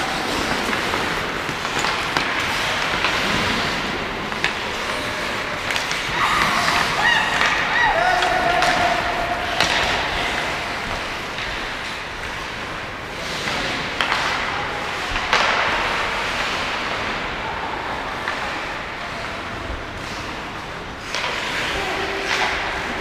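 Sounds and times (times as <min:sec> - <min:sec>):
hockey sticks and puck knocking: 0:00.0 - 0:17.3, 0:19.9 - 0:23.0
skate blades scraping ice: 0:00.0 - 0:23.0.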